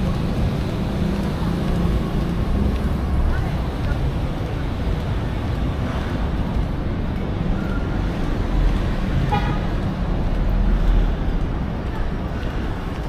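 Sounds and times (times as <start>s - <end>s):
city road traffic rumble: 0.0s - 13.0s.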